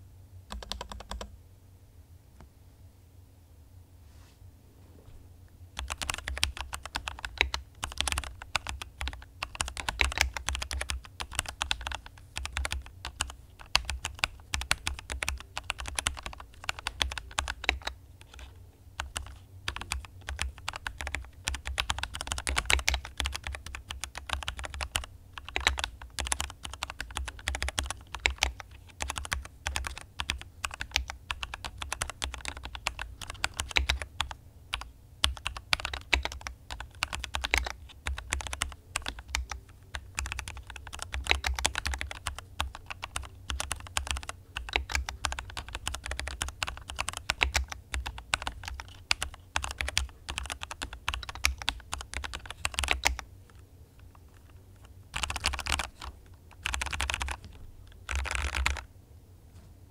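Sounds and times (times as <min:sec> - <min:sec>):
fast typing on mechanical keyboard: 0:00.5 - 0:01.3, 0:05.8 - 0:58.9.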